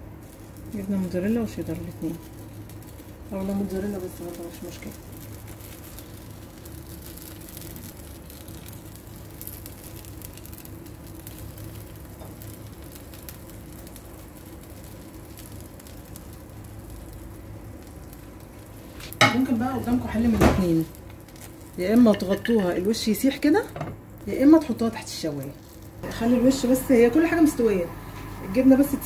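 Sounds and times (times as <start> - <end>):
dough sizzling in a frying pan: 0.0 - 29.0.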